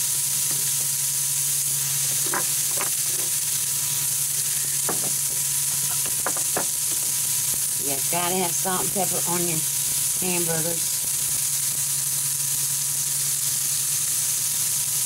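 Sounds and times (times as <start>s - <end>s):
grill fan humming: 0.0s - 15.0s
patties sizzling on hot plate: 0.0s - 15.0s.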